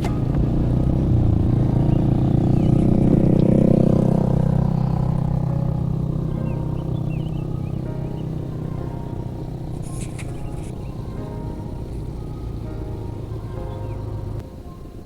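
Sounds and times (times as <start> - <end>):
bird chirps: 0.0 - 15.0
vehicle engine passing by: 0.0 - 15.0.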